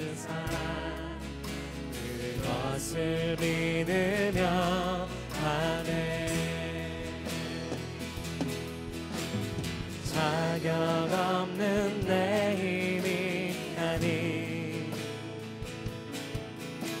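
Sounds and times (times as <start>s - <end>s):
group singing worship song: 0.0s - 8.6s, 9.2s - 15.8s
acoustic guitar: 0.0s - 17.0s
band accompaniment: 0.0s - 17.0s.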